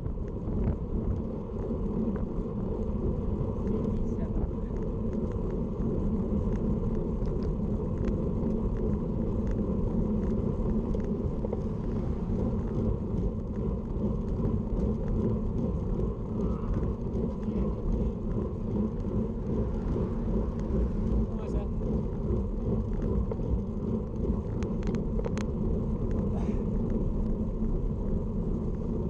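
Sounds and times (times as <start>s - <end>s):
bicycle road noise: 0.0s - 29.0s
wind buffeting microphone: 0.0s - 29.0s.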